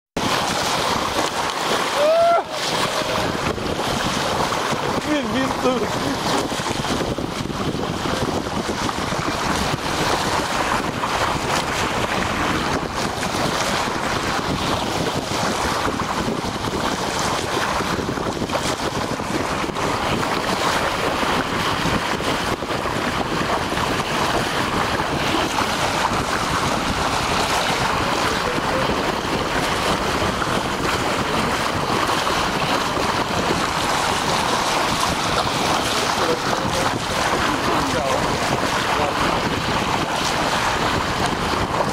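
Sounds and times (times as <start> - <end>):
sea water rushing along a boat: 0.0 - 41.9
wind buffeting microphone: 0.2 - 41.9.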